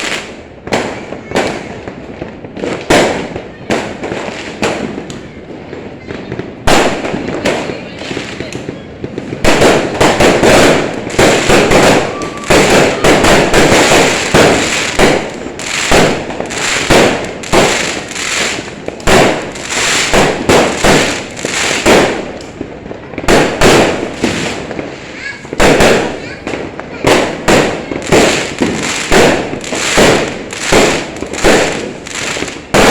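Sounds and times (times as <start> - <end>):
fireworks bangs and crackles: 0.0 - 32.9.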